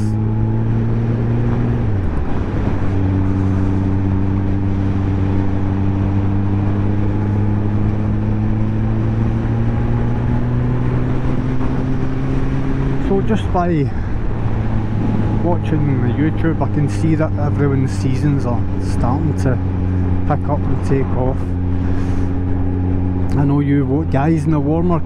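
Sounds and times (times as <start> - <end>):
wind noise: 0.9 - 23.3.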